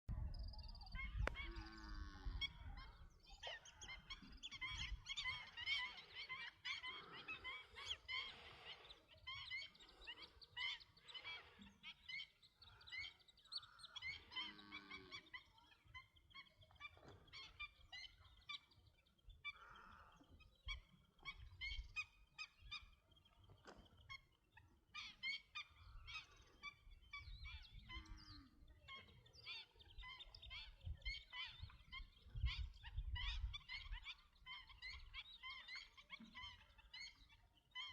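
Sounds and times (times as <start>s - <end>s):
birds chirping and whistling: 0.1s - 37.9s.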